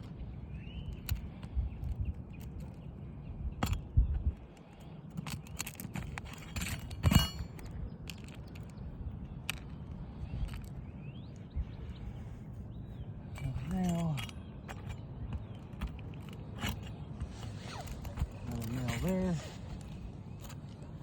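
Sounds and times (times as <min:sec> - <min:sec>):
faint bird chirp: 0:00.0 - 0:21.0
wind rumble on microphone: 0:00.0 - 0:21.0.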